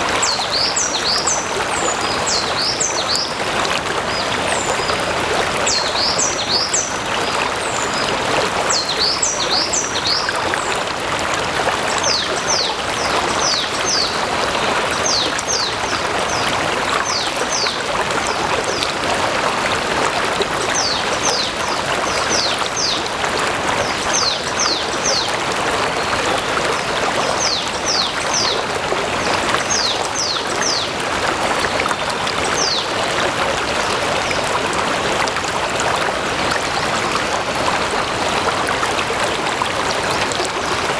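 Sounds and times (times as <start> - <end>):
brook flowing: 0.0 - 40.9.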